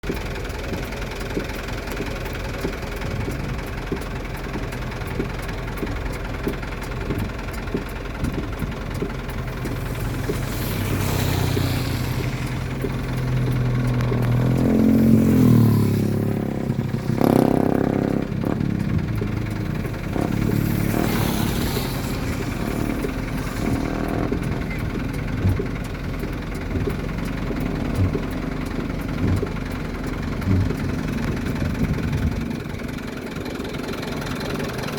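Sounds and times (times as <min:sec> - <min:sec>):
vehicle engines running: 0:00.0 - 0:34.9
vehicles passing: 0:00.0 - 0:34.9.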